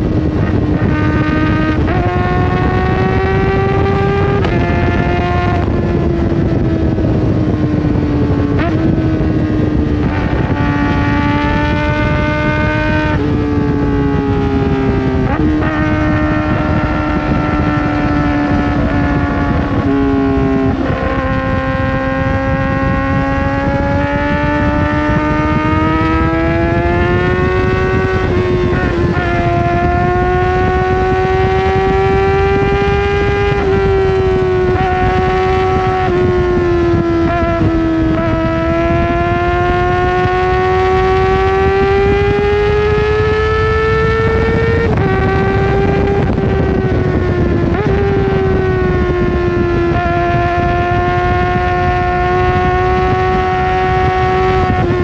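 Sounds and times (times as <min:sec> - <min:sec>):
motorcycle engine revving high: 0:00.0 - 0:55.0
wind and road noise: 0:00.0 - 0:55.0.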